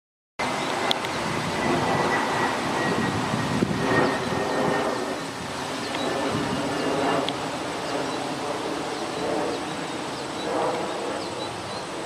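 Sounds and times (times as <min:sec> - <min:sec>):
thin high whine: 0:00.4 - 0:12.0.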